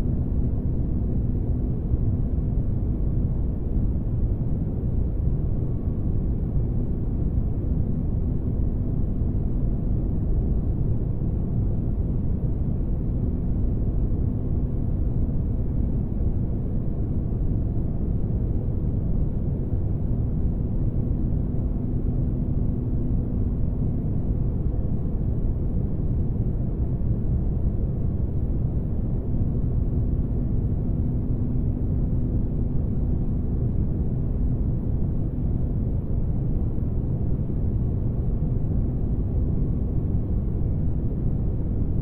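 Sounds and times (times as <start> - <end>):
deep low ambient noise: 0.0 - 42.0
faint hum: 0.0 - 42.0.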